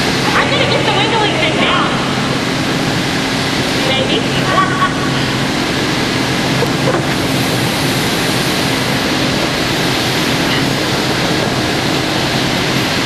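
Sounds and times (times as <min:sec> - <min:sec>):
electric air blower rushing: 0:00.0 - 0:13.0
low hum: 0:00.0 - 0:13.0.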